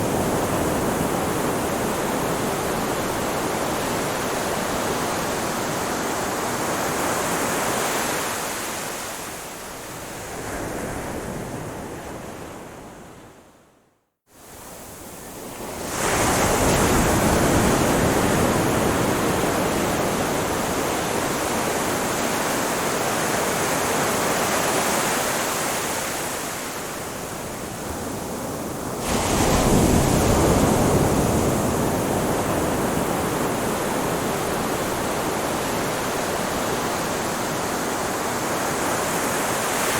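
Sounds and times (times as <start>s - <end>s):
ocean waves washing on shore: 0.0s - 13.4s, 14.4s - 39.9s.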